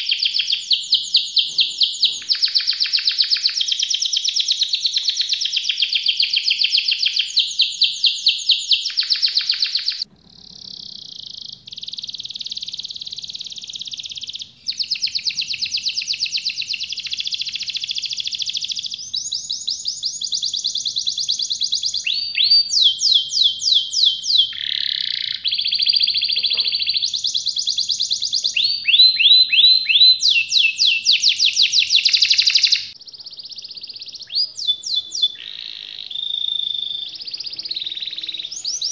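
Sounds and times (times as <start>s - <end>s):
canaries singing trills: 0.0s - 38.9s.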